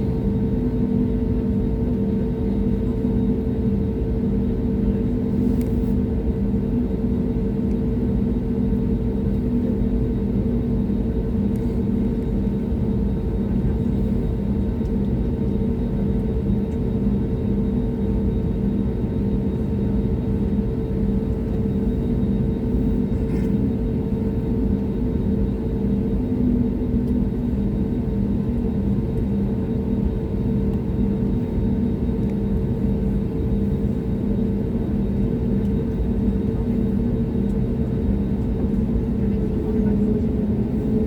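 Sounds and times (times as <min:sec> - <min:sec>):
aircraft cabin drone: 0:00.0 - 0:41.0.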